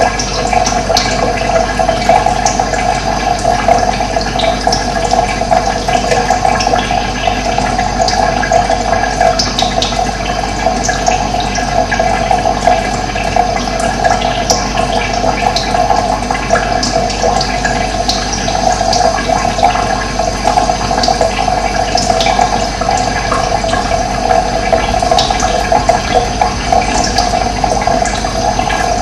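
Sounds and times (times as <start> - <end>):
running water: 0.0 - 29.0.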